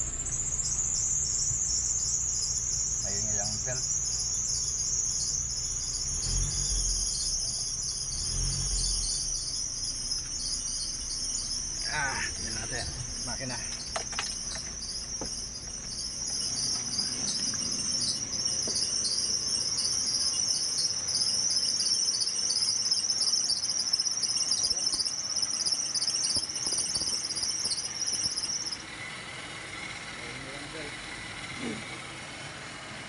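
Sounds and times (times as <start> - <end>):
crickets chirring: 0.0 - 32.2.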